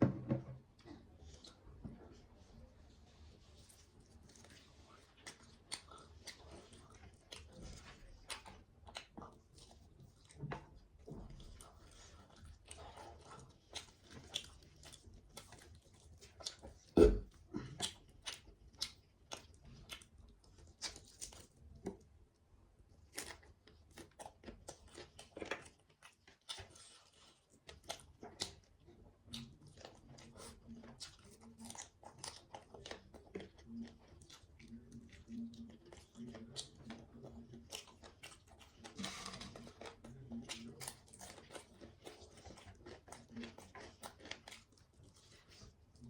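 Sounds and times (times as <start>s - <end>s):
person chewing food: 3.3s - 46.0s.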